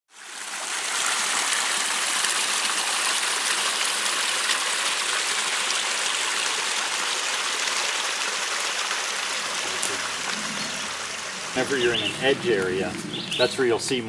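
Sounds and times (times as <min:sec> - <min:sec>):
stream rushing over rocks: 0:00.1 - 0:13.5.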